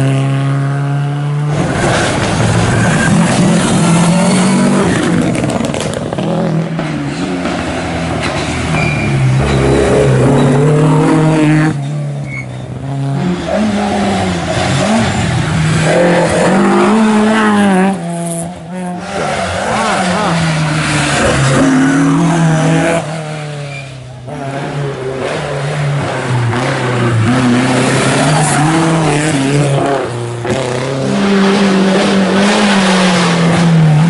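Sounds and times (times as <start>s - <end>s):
rally car engines revving hard: 0.0s - 34.0s.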